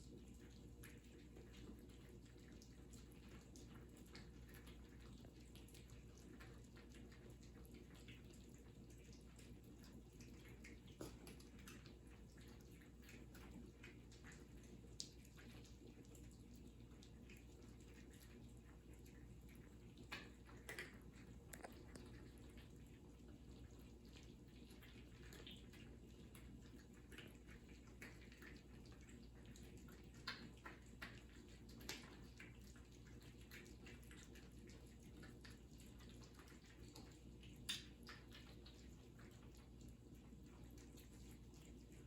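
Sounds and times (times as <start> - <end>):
cats eating clicks and smacks: 0.0 - 42.0
low steady hum: 0.0 - 42.0.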